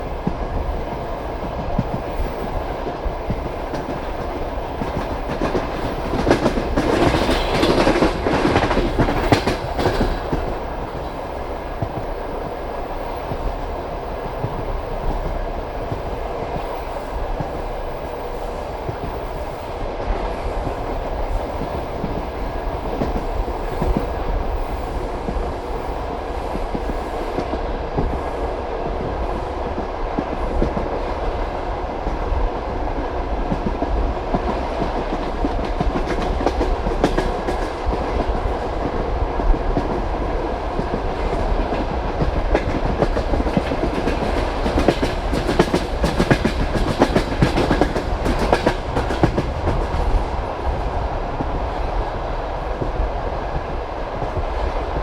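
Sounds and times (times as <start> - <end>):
train carriage rumbling: 0.0 - 55.0.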